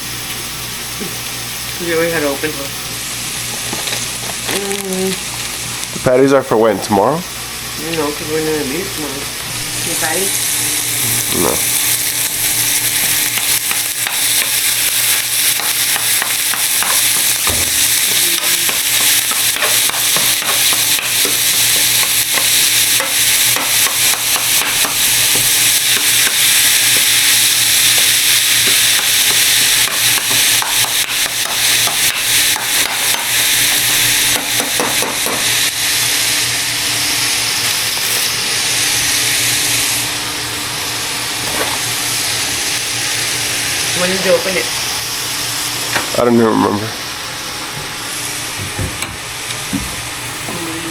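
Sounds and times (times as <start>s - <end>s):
meat sizzling in a frying pan: 0.0s - 48.6s.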